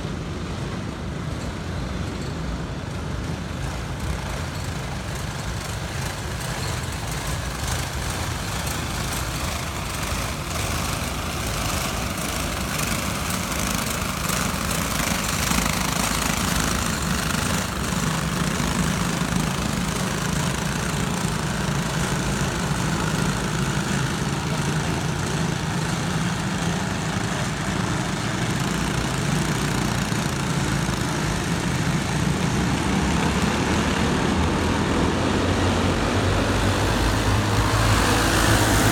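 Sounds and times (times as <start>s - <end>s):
racing kart engines droning: 0.0s - 38.9s.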